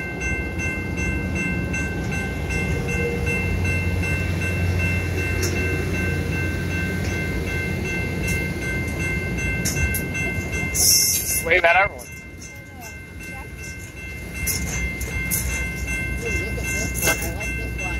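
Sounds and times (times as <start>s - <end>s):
high-pitched ringing: 0.0s - 17.9s
train wheels rumbling on rails: 0.0s - 17.9s.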